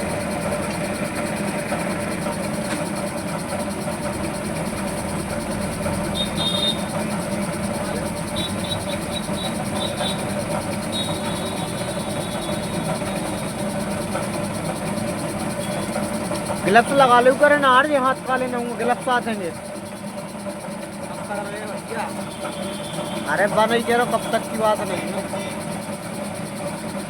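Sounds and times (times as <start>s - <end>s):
engines running: 0.0s - 27.0s.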